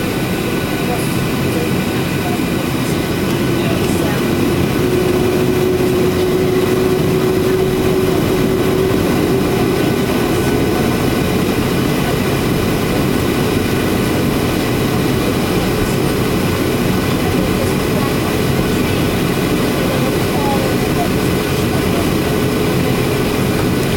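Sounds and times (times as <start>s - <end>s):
airliner cabin rushing hum: 0.0s - 23.9s
humming tone: 2.6s - 23.9s.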